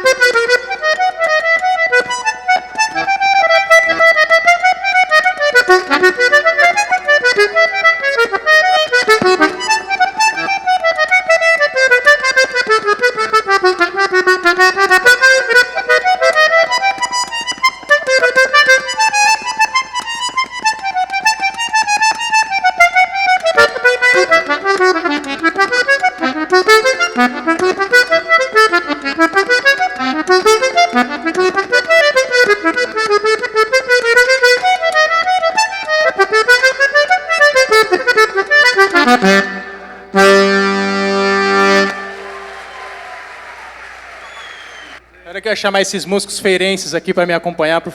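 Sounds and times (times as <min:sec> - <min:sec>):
button accordion playing: 0:00.0 - 0:45.2.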